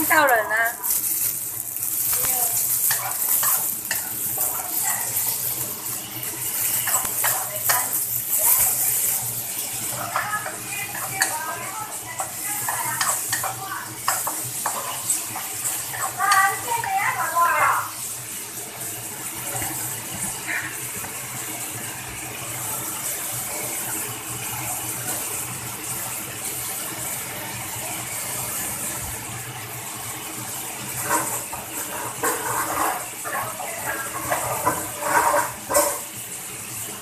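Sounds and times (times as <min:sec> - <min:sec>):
mushrooms sizzling in a wok: 0:00.0 - 0:37.0.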